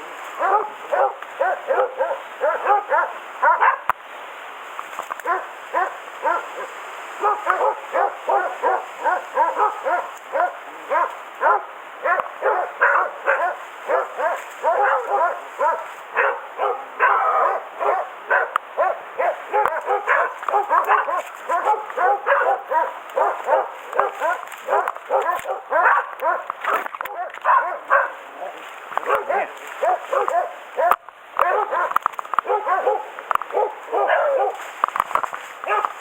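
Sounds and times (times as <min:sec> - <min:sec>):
dogs baying and barking: 0:00.0 - 0:03.9, 0:05.2 - 0:36.0.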